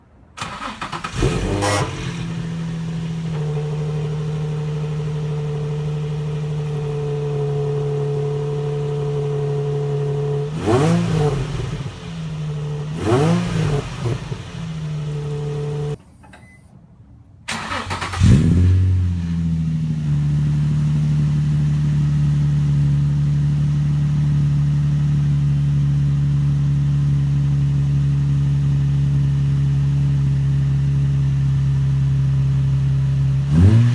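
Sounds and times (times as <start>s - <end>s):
car engine idling and revving: 0.4s - 16.0s, 17.5s - 33.9s.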